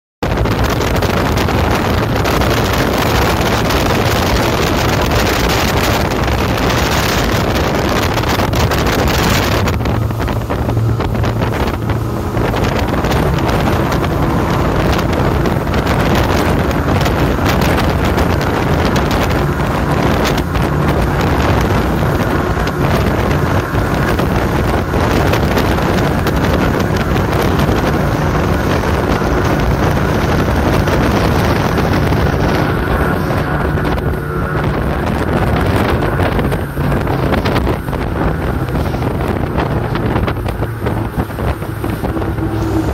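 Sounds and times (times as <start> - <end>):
outboard engines droning: 0.2 - 42.9
wind on microphone: 0.2 - 42.9.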